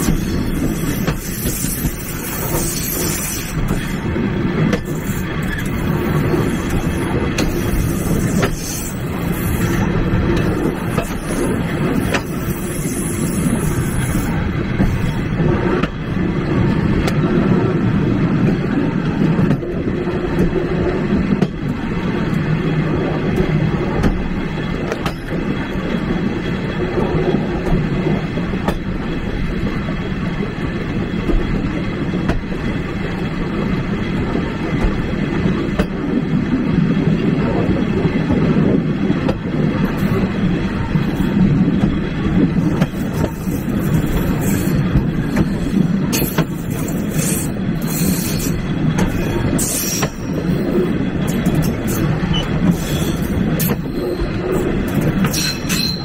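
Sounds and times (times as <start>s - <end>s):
train carriage rumbling: 0.0s - 56.0s
wheels clacking over rail joints: 0.0s - 56.0s.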